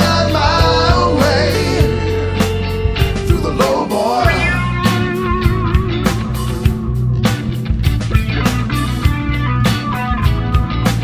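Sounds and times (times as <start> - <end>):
bass: 0.0 - 11.0
electric guitar: 0.0 - 11.0
steady drum beat: 0.0 - 11.0.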